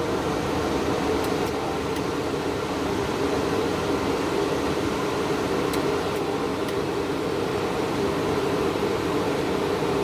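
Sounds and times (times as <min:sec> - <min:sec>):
cooling fan whirring: 0:00.0 - 0:10.0.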